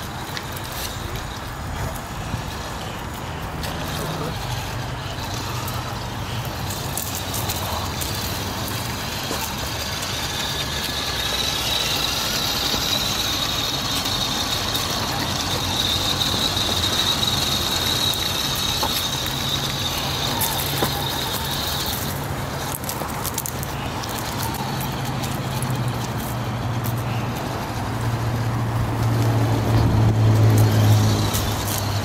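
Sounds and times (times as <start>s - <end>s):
rc car motor whine: 0.0s - 32.0s
tyres rustling on dirt: 0.0s - 32.0s.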